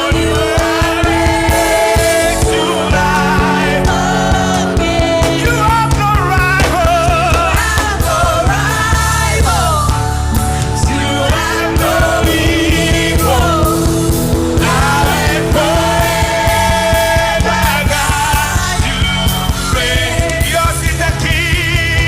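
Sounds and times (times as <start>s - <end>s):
person singing: 0.0s - 22.0s
worship band music: 0.0s - 22.0s.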